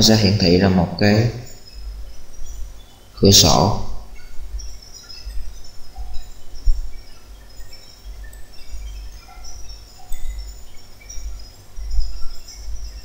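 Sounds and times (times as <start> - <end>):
high chirps: 0.0 - 13.0.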